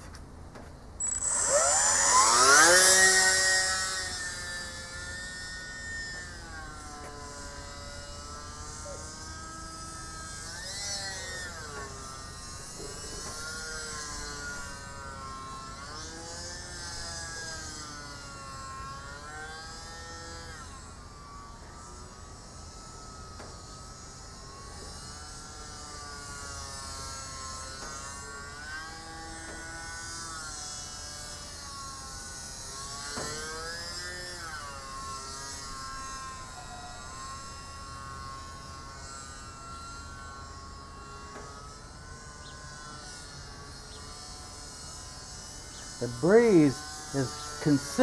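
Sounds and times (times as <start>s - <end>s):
model plane motor whine: 0.0s - 48.0s.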